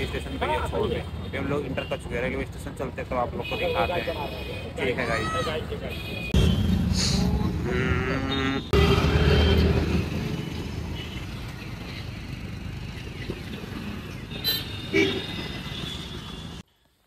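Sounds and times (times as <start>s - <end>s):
passing auto-rickshaws and motorcycles: 0.0s - 16.6s
traffic hum: 0.0s - 16.7s.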